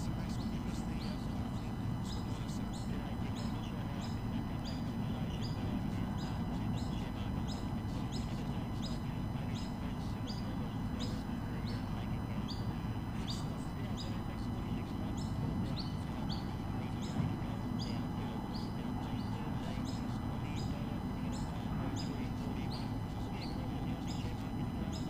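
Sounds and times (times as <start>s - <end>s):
bird chirping: 0.0s - 25.0s
steady low rumble: 0.0s - 25.0s.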